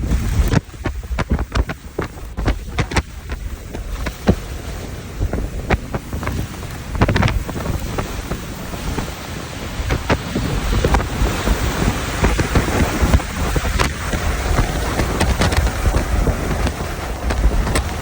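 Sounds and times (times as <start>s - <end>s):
wind gusting on microphone: 0.0s - 18.0s.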